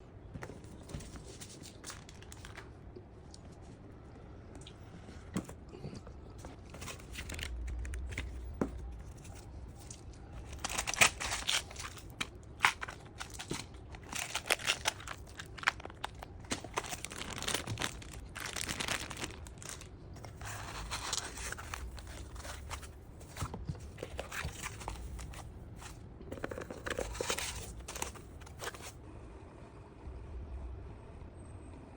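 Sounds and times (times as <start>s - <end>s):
crinkling rustling handling noise: 0.3s - 3.8s, 6.3s - 29.0s.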